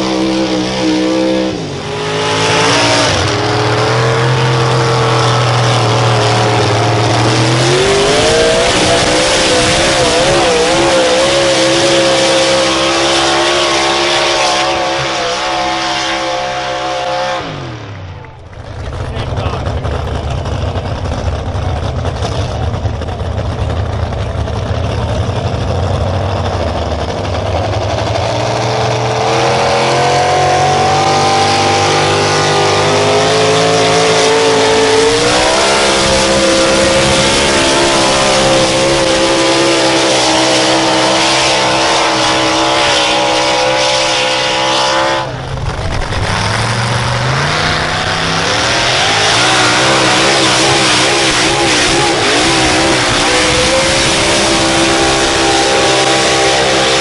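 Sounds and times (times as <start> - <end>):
engine running hard under load: 0.0 - 57.0.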